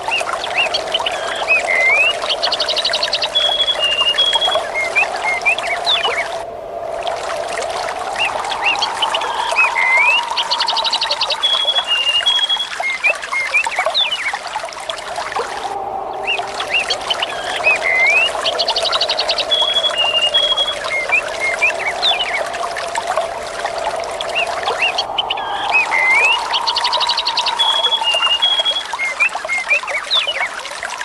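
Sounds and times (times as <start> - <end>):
water trickling and pouring: 0.0 - 31.0
birds chirping and whistling: 0.1 - 6.4, 8.0 - 14.3, 16.2 - 30.4.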